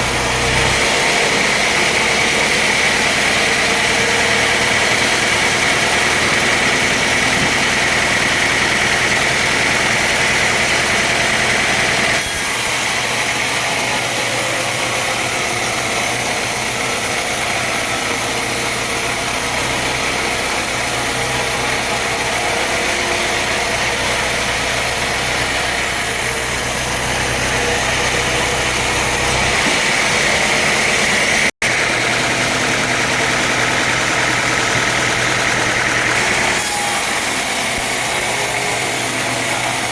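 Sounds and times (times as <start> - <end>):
sawmill machinery with motor hum: 0.0 - 39.9.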